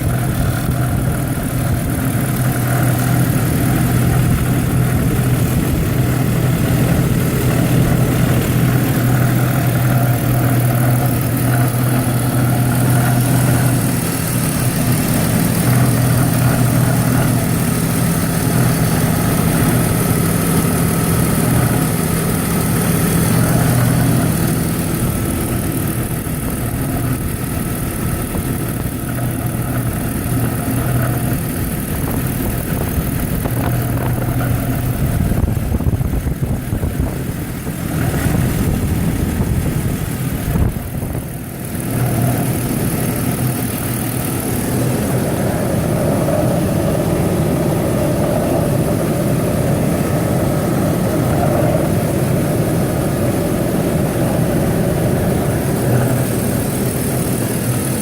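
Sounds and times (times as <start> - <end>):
car engine idling with growl: 0.0 - 58.0.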